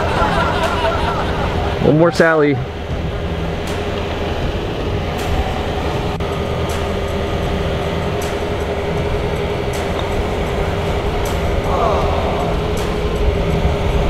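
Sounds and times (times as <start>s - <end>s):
machine drone with low rumble: 0.0s - 14.0s.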